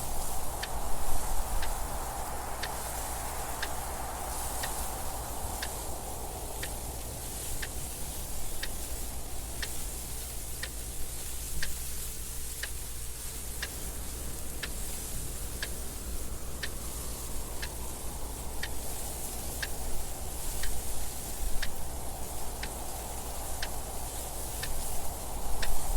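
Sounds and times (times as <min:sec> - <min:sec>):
wind noise: 0:00.0 - 0:25.9
clock ticking: 0:00.2 - 0:25.9.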